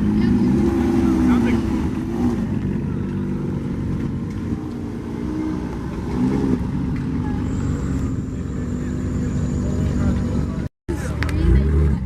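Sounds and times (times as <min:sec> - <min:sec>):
car engine revving lightly: 0:00.0 - 0:12.0.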